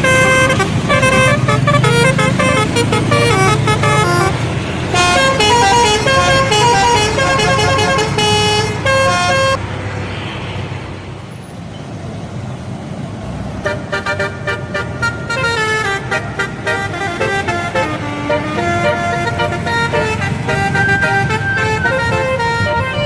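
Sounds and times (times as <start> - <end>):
bus horn playing a melody: 0.0 - 9.6, 13.6 - 23.0
low rumble of bus engine: 0.0 - 23.0
road noise: 0.0 - 23.0.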